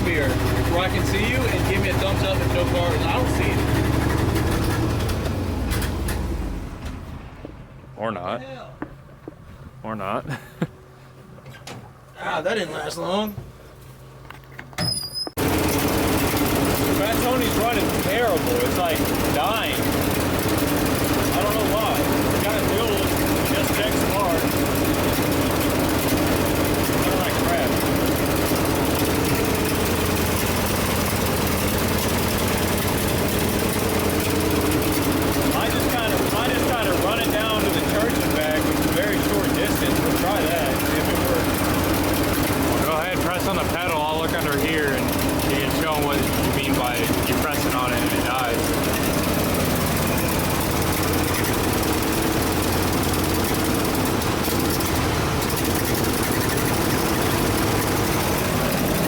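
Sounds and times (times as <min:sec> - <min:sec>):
truck engine idling rough: 0:00.0 - 0:11.2, 0:15.4 - 0:59.0.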